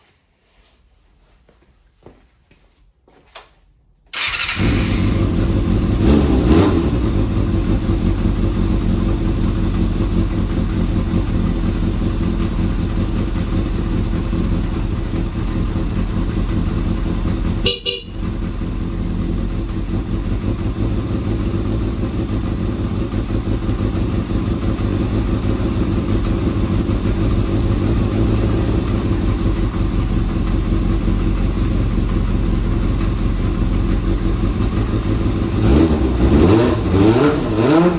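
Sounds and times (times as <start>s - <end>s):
motorcycle engine starting and idling: 4.1s - 37.9s.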